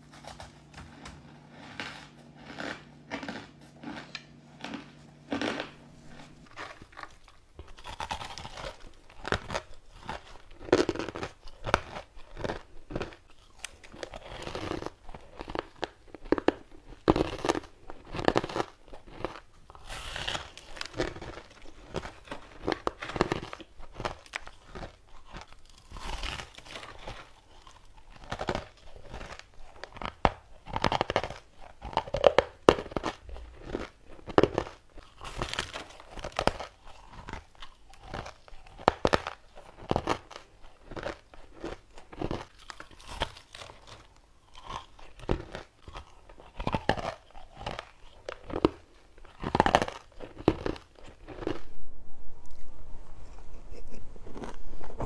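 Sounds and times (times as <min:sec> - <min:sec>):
person crunching ice: 0:00.0 - 0:51.8.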